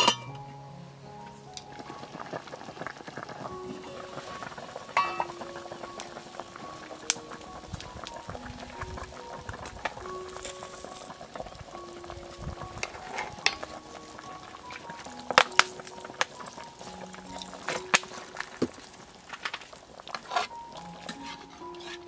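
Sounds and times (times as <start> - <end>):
soft background music: 0.0 - 22.0
pot simmering with bubbling hiss: 1.0 - 22.0.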